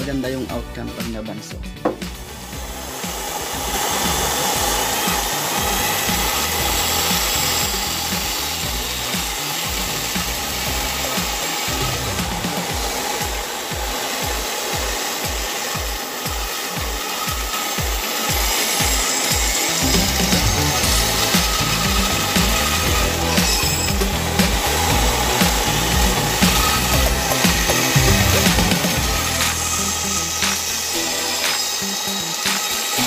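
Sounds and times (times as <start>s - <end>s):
band saw cutting wood: 0.0s - 33.0s.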